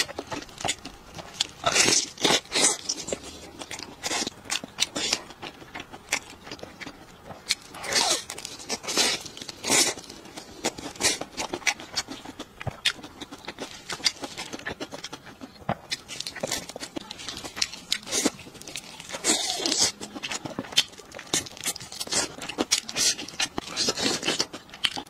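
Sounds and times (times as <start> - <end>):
chewing and mouth smacks: 0.0 - 25.0.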